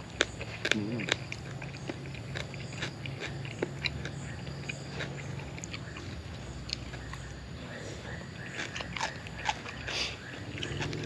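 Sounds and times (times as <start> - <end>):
person chewing crunchy salad: 0.0 - 11.0.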